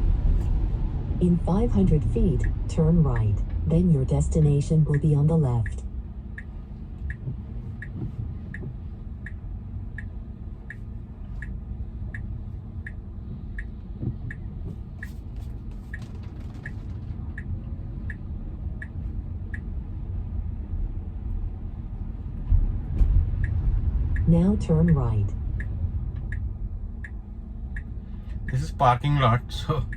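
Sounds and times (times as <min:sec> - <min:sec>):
road and cabin rumble: 0:00.0 - 0:29.9
turn signal ticking: 0:01.2 - 0:29.9.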